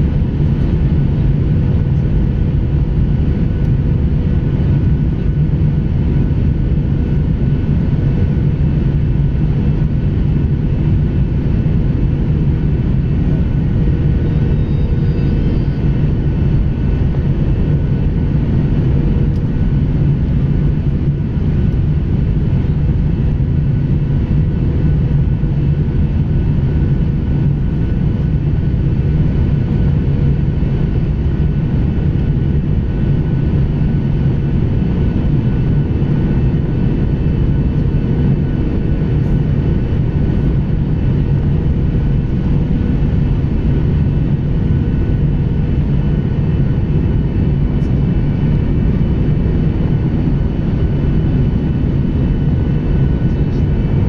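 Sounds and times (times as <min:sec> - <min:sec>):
faint steady hum: 0:00.0 - 0:54.0
jet engine cabin rumble: 0:00.0 - 0:54.0.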